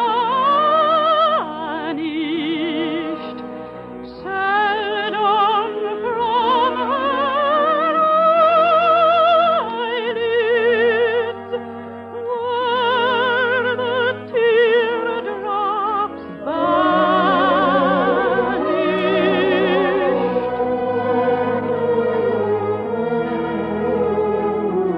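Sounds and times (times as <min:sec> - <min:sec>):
operatic singer with vibrato: 0:00.0 - 0:24.9
orchestral accompaniment: 0:00.0 - 0:24.9.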